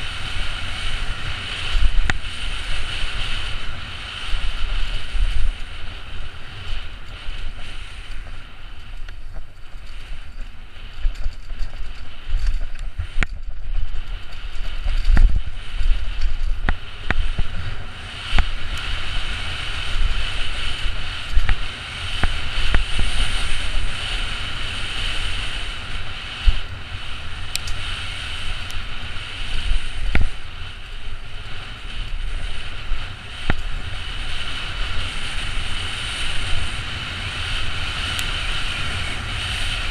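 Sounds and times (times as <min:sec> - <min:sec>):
mountain bike rattling over dirt: 0:00.0 - 0:39.9
wind buffeting microphone: 0:00.0 - 0:39.9.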